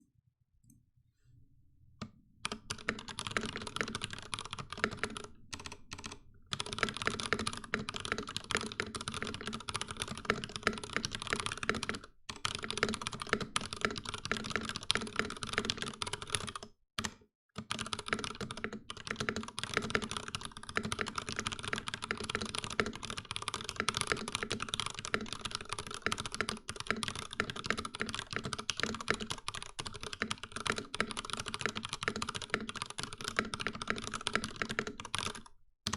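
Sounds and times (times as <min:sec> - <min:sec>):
mechanical keyboard typing: 0:02.4 - 0:35.9.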